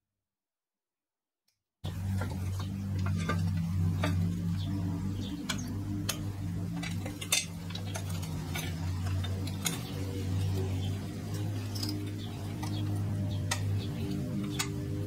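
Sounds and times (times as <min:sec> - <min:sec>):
steady low hum: 0:01.8 - 0:15.0.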